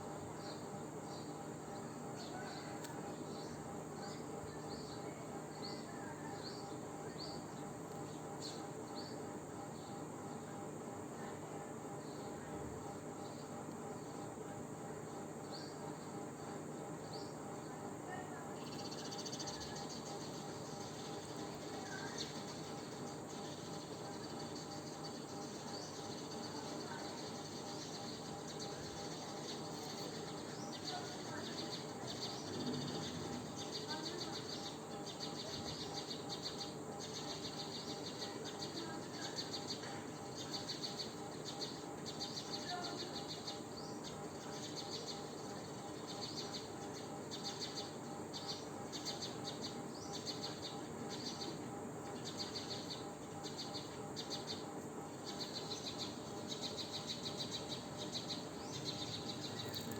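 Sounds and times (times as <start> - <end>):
faint steady hum: 0.0 - 59.9
insects chirping: 0.0 - 59.9.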